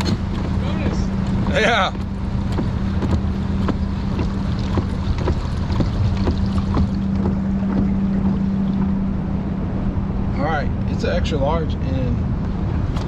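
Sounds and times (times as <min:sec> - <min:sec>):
low rumble: 0:00.0 - 0:13.0
steady low hum: 0:00.0 - 0:13.0.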